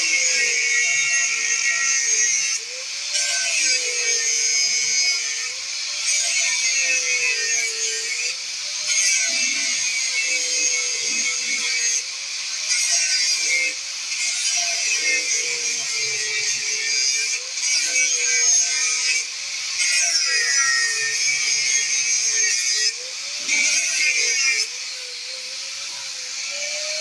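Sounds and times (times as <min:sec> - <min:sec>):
angle grinder cutting metal: 0:00.0 - 0:27.0.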